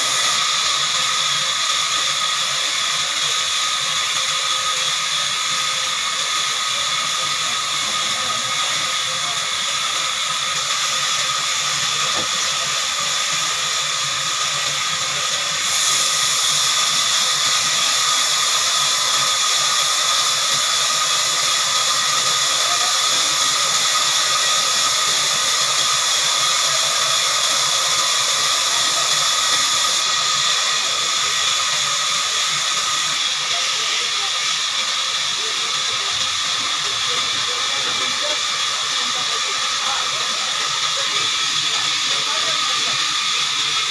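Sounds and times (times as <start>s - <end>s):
band saw cutting log: 0.0s - 43.9s.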